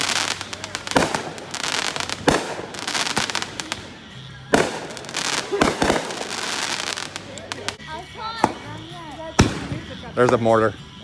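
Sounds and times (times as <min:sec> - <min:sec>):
firework bangs: 0:00.0 - 0:10.6
fireworks crackling and popping: 0:00.0 - 0:11.0.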